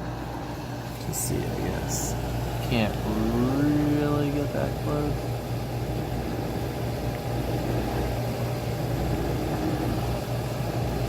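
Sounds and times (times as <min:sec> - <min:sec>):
dishwasher pump humming: 0:00.0 - 0:11.0.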